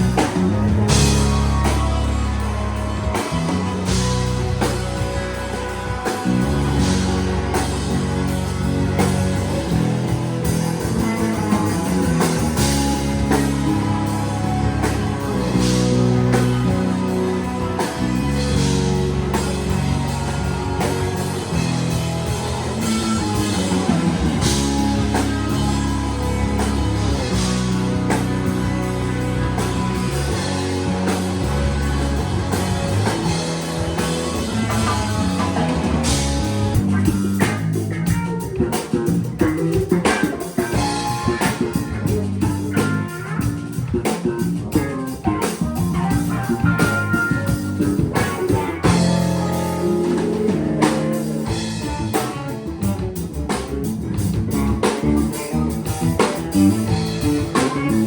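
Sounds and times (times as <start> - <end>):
drum kit: 0.0 - 58.0
electric guitar: 0.0 - 58.0
live blues-rock band: 0.0 - 58.0.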